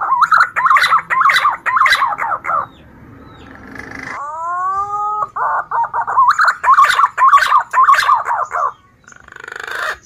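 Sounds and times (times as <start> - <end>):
pigeon whistling and warbling: 0.0 - 2.8, 3.4 - 10.0
buzzy pulsing bird call: 0.0 - 10.0.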